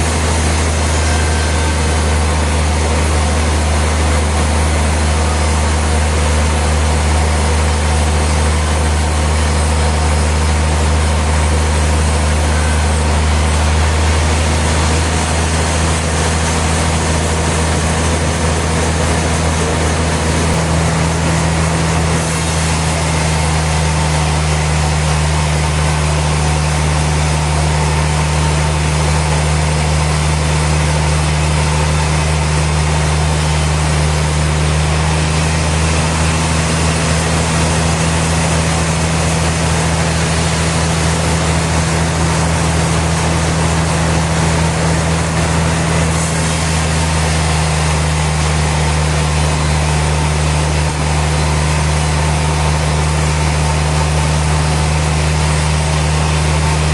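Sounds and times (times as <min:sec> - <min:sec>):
sawmill machinery drone: 0:00.0 - 0:56.9.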